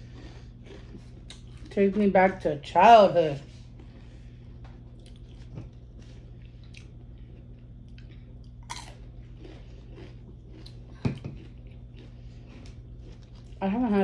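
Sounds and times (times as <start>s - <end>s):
chewing crunchy chips: 0.0s - 2.2s, 3.6s - 14.0s
steady low hum: 0.0s - 14.0s.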